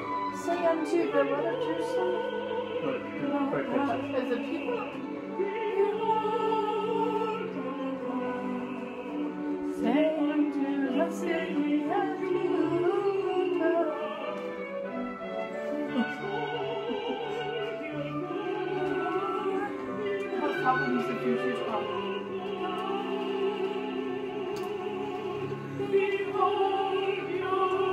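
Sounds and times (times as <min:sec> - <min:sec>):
opera singer with vibrato: 0:00.0 - 0:27.9
orchestral accompaniment: 0:00.0 - 0:27.9.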